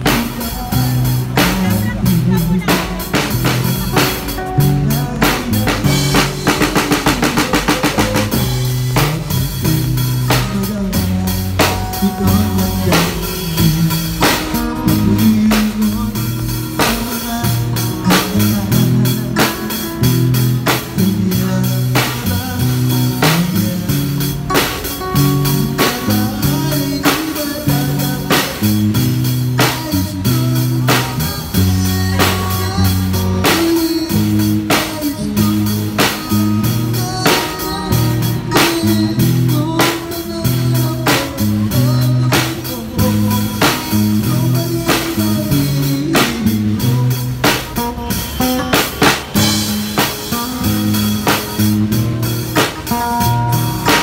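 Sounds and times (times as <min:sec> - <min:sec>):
drum kit playing: 0:00.0 - 0:54.0
fast drum roll: 0:00.0 - 0:54.0
music with guitar and bass: 0:00.0 - 0:54.0.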